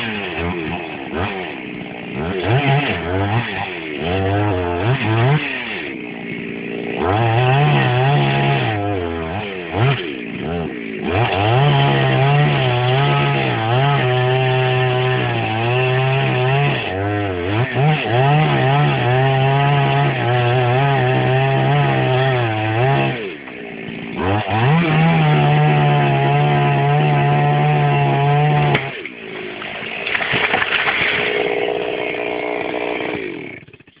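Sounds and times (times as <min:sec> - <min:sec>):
chainsaw cutting wood: 0:00.0 - 0:34.0.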